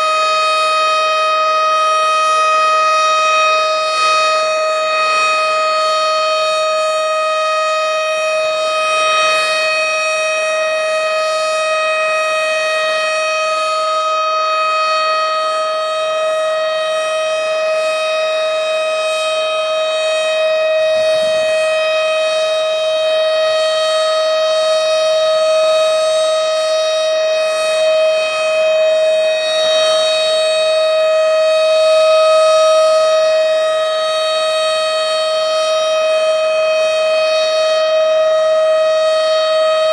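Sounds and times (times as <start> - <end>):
warning siren steady wail: 0.0 - 39.9.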